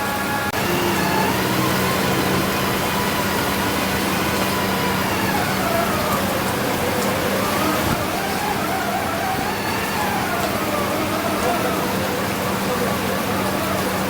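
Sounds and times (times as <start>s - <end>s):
diesel engine hum: 0.0s - 14.0s
machine whine: 0.0s - 14.0s.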